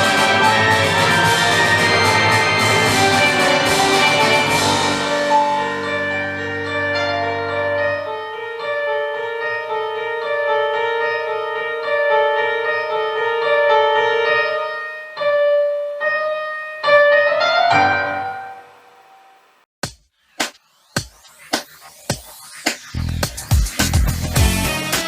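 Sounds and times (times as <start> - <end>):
keyboard instrumental melody: 0.0 - 19.3, 23.3 - 25.0.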